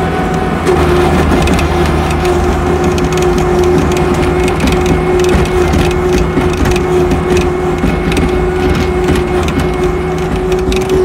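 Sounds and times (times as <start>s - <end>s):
rattling and crunching on snow: 0.0s - 11.0s
skid steer loader whine: 0.0s - 11.0s.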